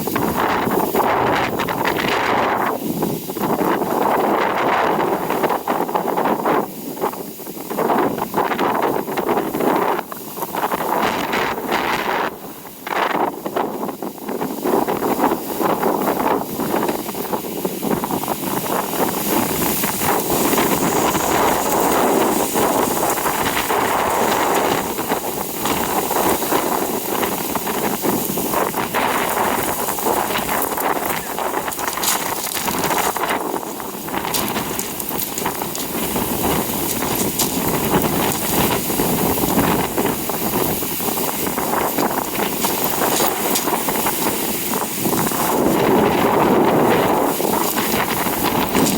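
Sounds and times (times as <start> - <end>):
strong wind buffeting microphone: 0.0 - 48.9.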